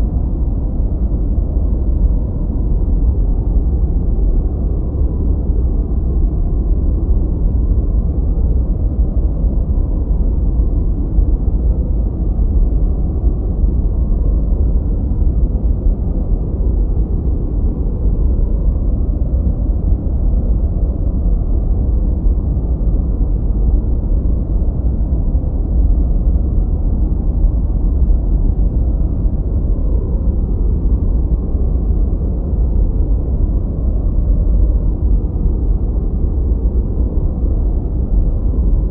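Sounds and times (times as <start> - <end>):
steady muffled white noise: 0.0 - 38.9.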